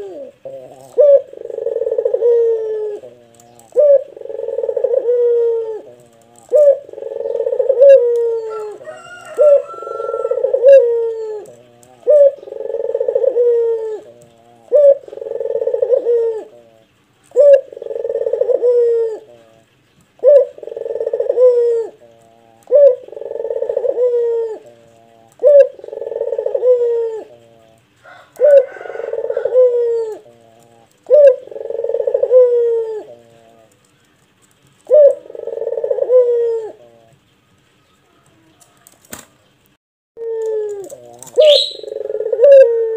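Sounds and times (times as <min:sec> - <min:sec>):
dove cooing: 0:00.0 - 0:39.4, 0:40.2 - 0:42.9.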